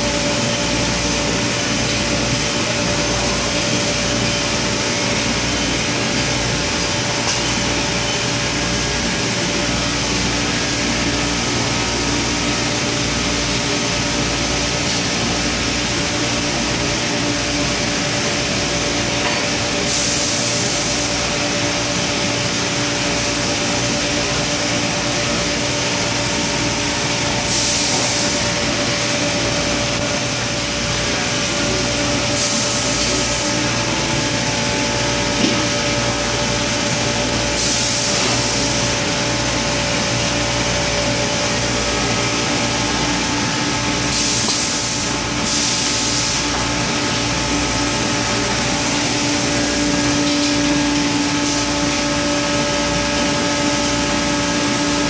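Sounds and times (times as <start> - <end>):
machine hum with steady tones: 0.0 - 55.0.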